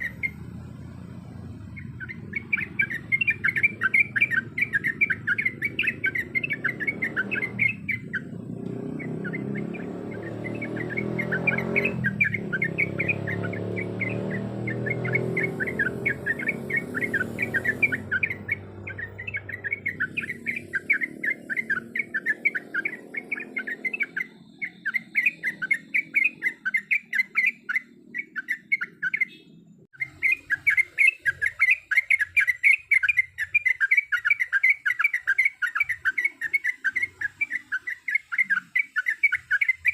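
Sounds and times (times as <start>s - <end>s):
bulbul chattering: 0.0s - 39.9s.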